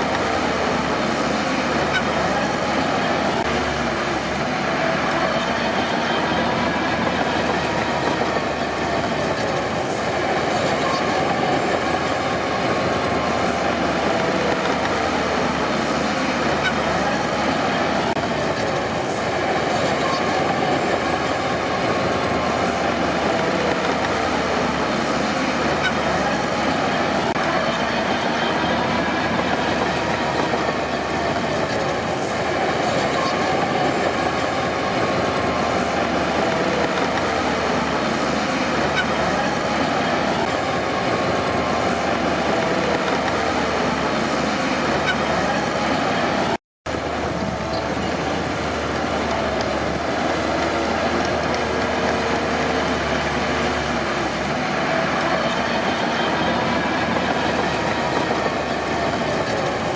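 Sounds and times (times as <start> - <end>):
diesel engine drone: 0.0 - 59.9
steel tracks squealing: 0.0 - 59.9.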